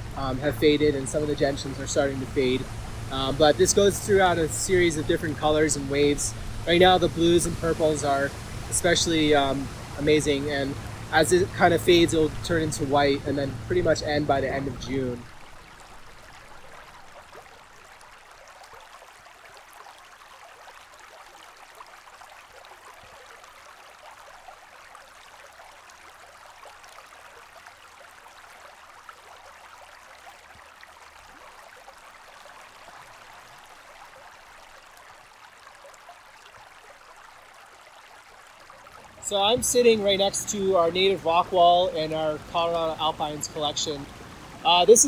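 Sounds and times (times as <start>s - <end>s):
running water: 0.0s - 45.0s.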